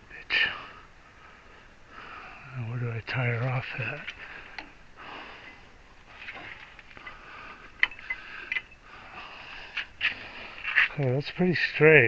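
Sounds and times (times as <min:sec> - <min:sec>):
faint rustling: 0:01.5 - 0:11.7.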